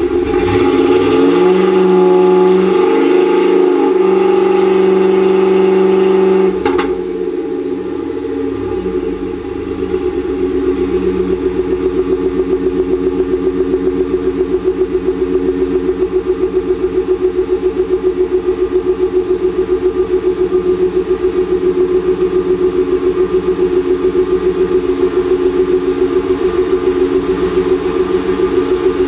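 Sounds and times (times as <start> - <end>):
pickup truck exhaust idling: 0.0 - 29.0.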